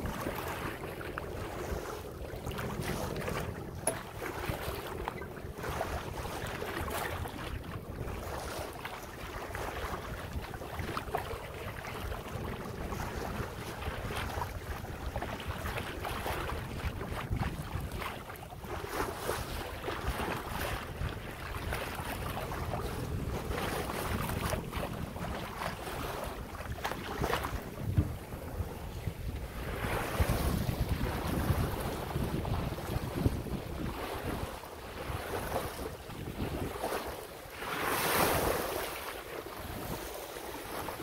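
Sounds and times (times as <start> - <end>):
wind buffeting microphone: 0.0 - 38.9, 39.5 - 41.0
water washing along hull: 0.0 - 41.0.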